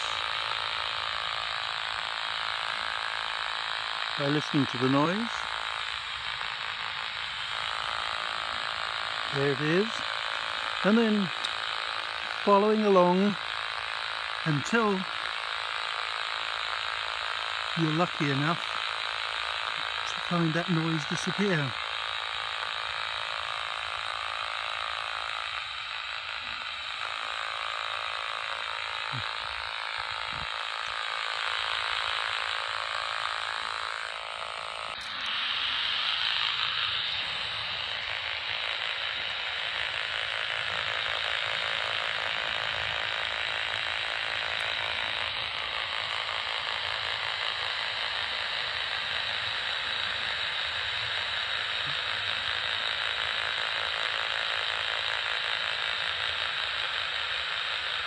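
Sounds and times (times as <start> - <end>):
radio rattling buzz: 0.0 - 58.0.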